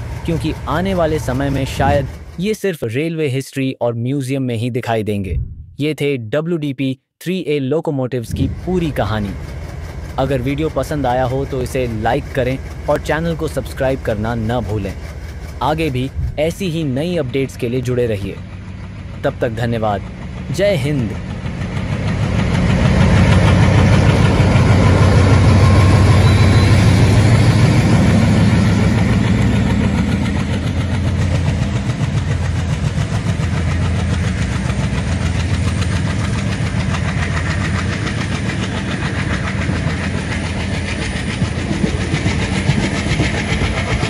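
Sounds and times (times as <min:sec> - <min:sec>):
train wheels clattering on rails: 0:00.0 - 0:02.5, 0:08.5 - 0:44.0
diesel locomotive engine: 0:00.0 - 0:03.1, 0:08.2 - 0:44.0.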